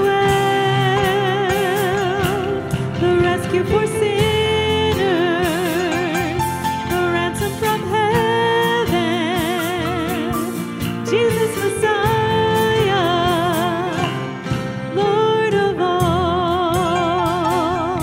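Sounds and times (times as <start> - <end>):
live band playing: 0.0 - 18.0
woman singing with vibrato: 0.0 - 18.0.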